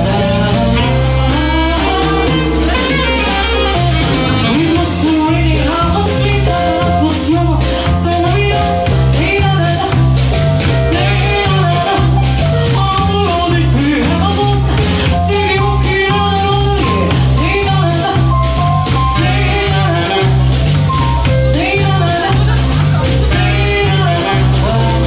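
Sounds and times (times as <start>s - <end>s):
band playing upbeat song: 0.0s - 25.0s.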